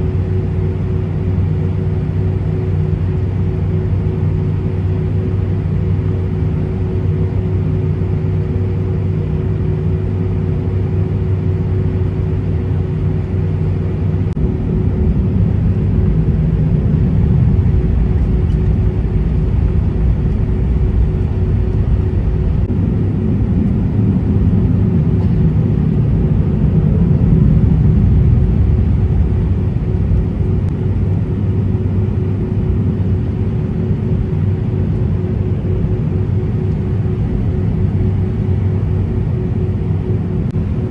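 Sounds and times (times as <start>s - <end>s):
aircraft cabin engine rumble: 0.0s - 40.9s
constant hum: 0.0s - 40.9s.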